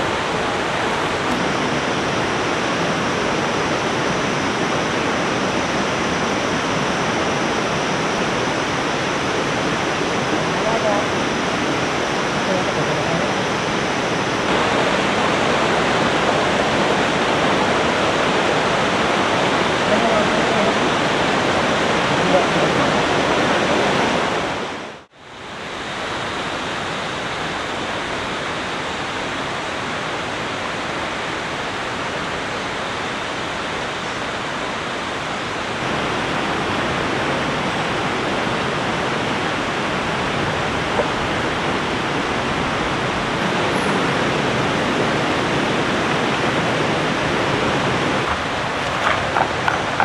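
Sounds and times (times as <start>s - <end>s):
river flowing: 0.0s - 50.0s.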